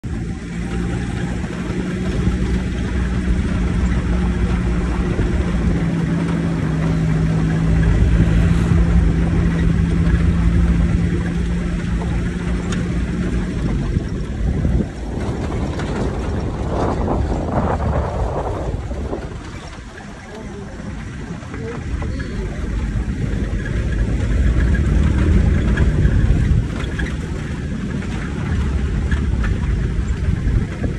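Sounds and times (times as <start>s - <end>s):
car engine drone: 0.0s - 30.9s
road rumble on gravel: 0.0s - 30.9s.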